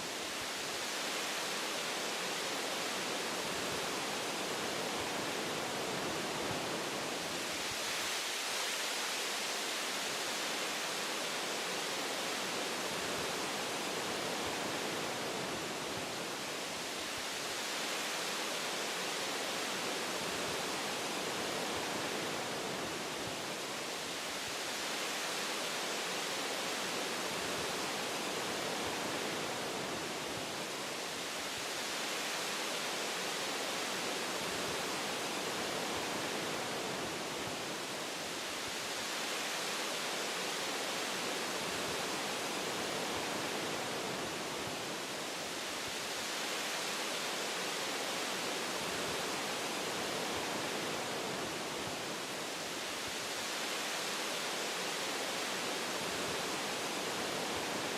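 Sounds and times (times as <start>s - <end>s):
wind rushing through trees: 0.0s - 57.9s.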